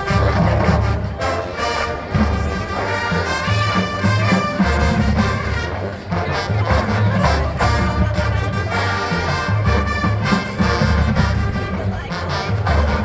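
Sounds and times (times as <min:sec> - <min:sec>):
low brass line: 0:00.0 - 0:13.0
marching band playing: 0:00.0 - 0:13.0.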